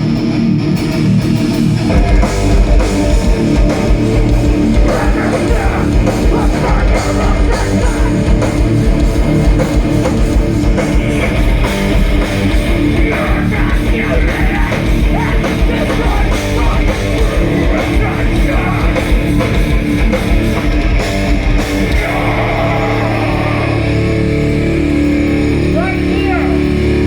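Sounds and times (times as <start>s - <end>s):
distorted electric guitars: 0.0s - 27.0s
drums: 0.0s - 27.0s.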